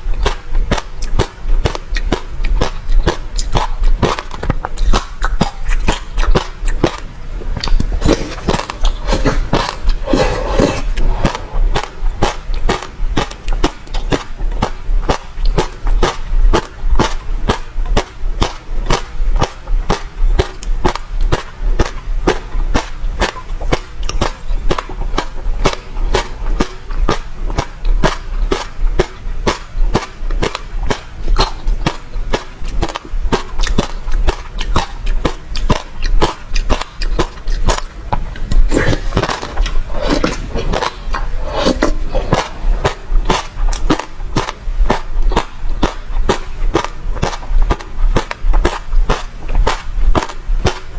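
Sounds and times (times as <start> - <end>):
chewing crunchy seeds: 0.0 - 50.9
mouth sounds: 0.0 - 50.9.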